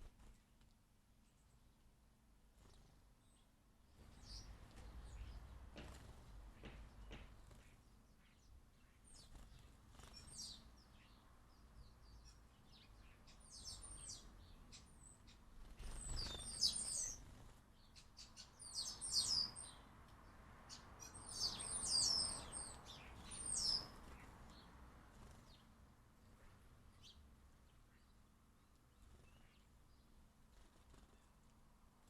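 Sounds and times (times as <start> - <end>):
sparrows chirping: 2.4 - 32.0.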